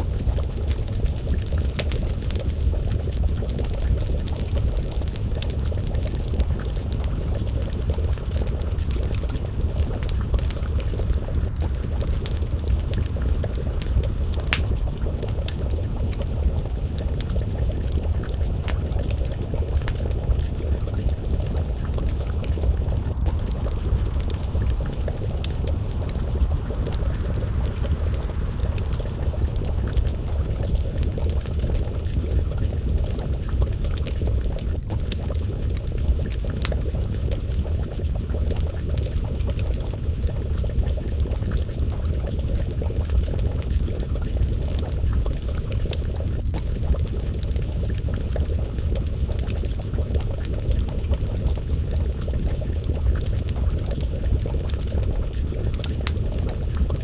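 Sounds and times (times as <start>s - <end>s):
stew bubbling in a pot: 0.0s - 57.0s
wood fire crackling and popping: 0.0s - 57.0s.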